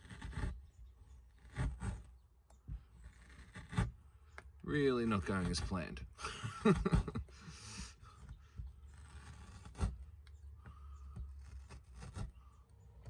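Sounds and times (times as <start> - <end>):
plastic panel rubbing and scraping: 0.0 - 13.0.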